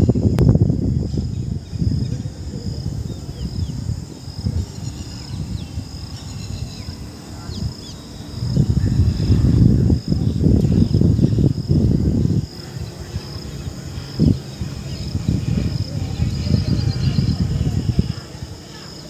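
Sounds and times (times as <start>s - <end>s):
insects trilling: 0.0s - 19.0s
wind buffeting microphone: 0.0s - 19.0s.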